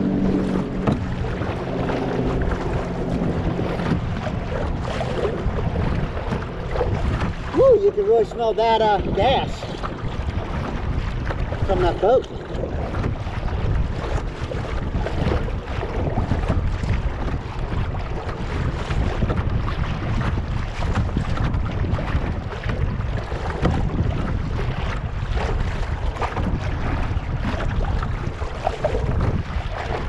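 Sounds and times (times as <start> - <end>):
water lapping against kayak: 0.0 - 30.0
wind buffeting microphone: 0.0 - 30.0.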